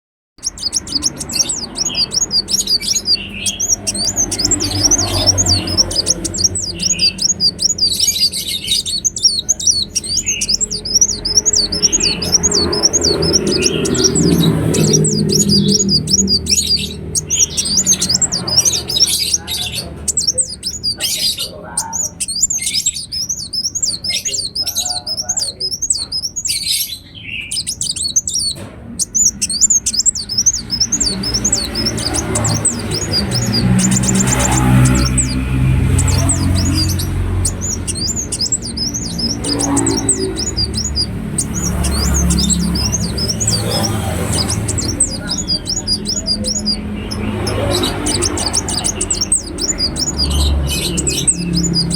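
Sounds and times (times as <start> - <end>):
bird twittering chirps: 0.4 - 51.9.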